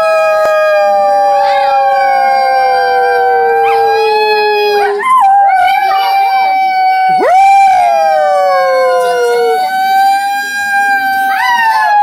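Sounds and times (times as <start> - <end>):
dogs howling: 0.0 - 12.0.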